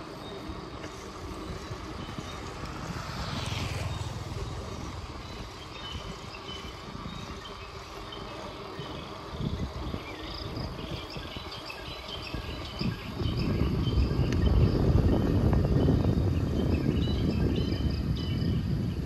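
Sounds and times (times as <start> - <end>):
motorbike passing by: 0.0 - 19.0
wind and road noise: 0.0 - 19.0.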